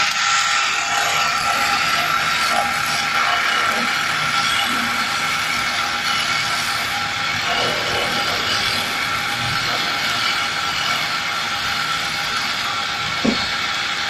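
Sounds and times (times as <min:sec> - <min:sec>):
lathe machine tone: 0:00.0 - 0:14.0.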